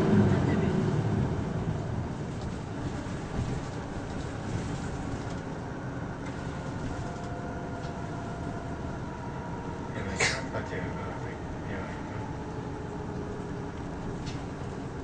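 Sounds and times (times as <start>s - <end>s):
bus diesel engine hum: 0.0s - 15.0s.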